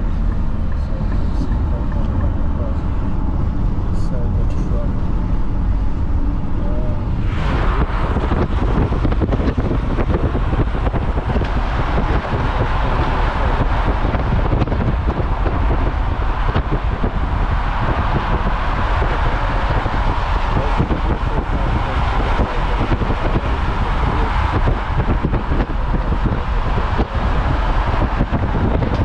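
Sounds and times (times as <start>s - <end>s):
car road noise: 0.0s - 29.0s
passing traffic: 0.0s - 29.0s
wind buffeting microphone: 0.0s - 29.0s
wind rushing past car: 0.0s - 29.0s.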